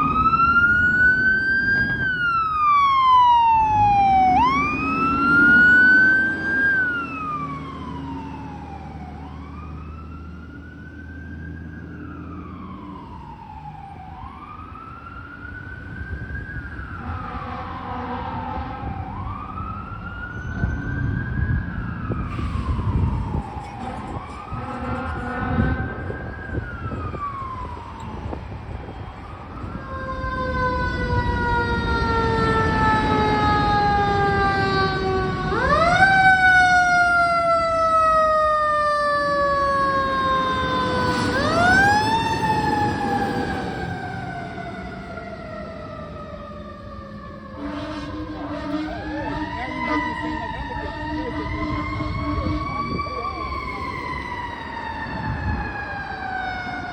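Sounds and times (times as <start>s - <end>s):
fire engine siren wailing: 0.0s - 56.9s.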